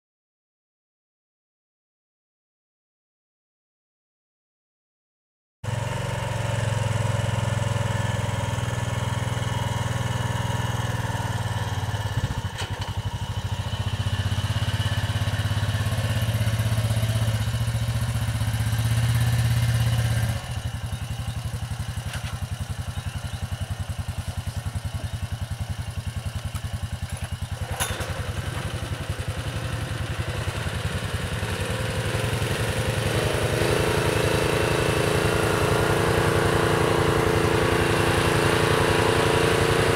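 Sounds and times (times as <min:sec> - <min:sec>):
small engine running: 0:05.6 - 0:39.9.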